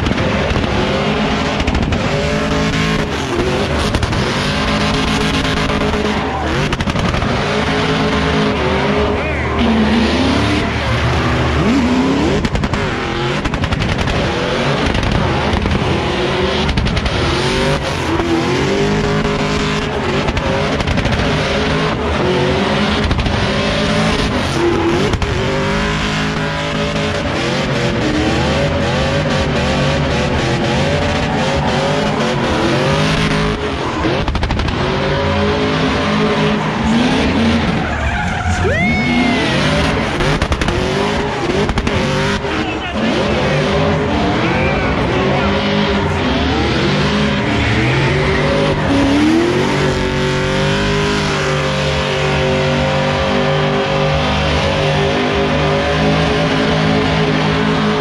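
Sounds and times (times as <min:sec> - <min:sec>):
car engine revving: 0:00.0 - 0:58.0
tyres screeching and skidding: 0:00.0 - 0:58.0.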